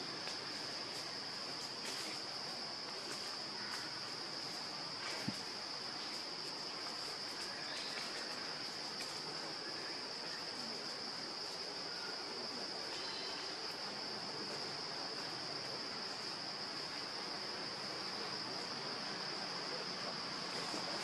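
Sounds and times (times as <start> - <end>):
faint background hiss: 0.0 - 21.0
insects droning: 0.0 - 21.0.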